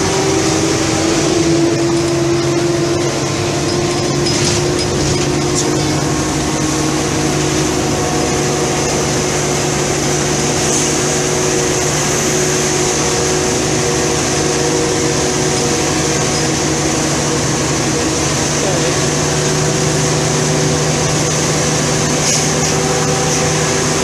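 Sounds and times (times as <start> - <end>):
bus engine drone: 0.0 - 24.0
road and wind noise: 0.0 - 24.0.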